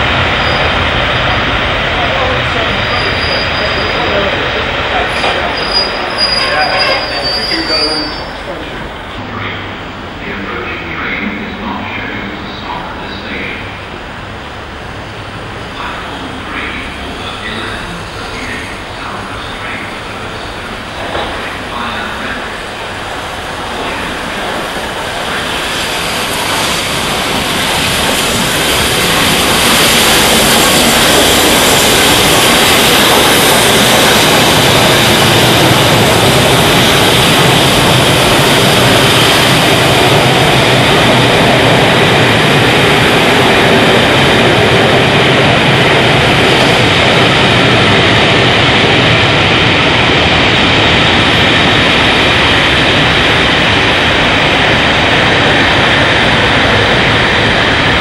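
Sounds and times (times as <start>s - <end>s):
train rumbling past on rails: 0.0s - 58.0s.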